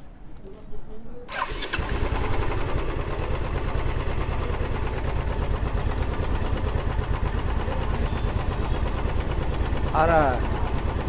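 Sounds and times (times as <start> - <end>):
motorcycle engine idling: 1.3 - 11.0.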